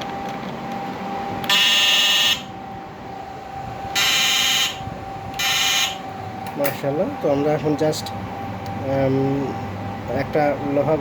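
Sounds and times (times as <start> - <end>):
faint inverter whine: 0.0 - 11.0.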